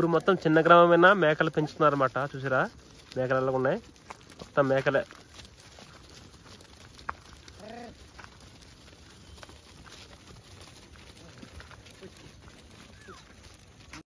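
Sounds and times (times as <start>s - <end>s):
goat hooves ticking: 0.0s - 14.0s.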